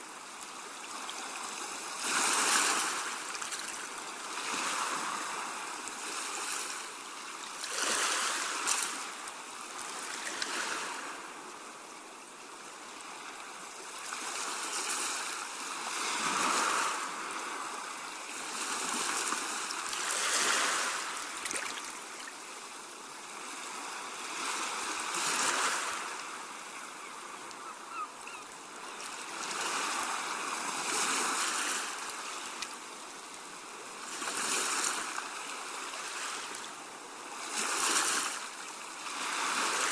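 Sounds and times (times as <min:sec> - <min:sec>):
waves washing up and draining: 0:00.0 - 0:39.9.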